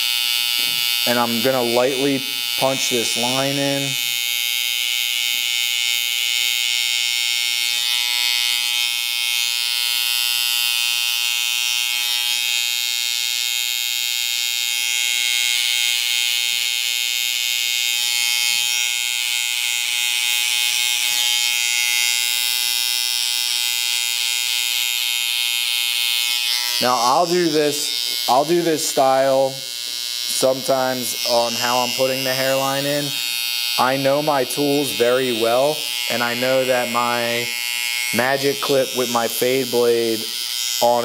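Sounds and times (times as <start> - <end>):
electric hair trimmer buzzing: 0.0 - 41.0.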